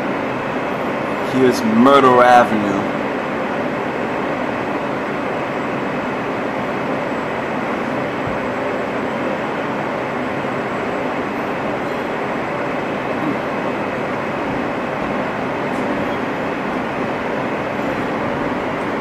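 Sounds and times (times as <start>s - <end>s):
subway car wheels on rail: 0.0s - 19.0s.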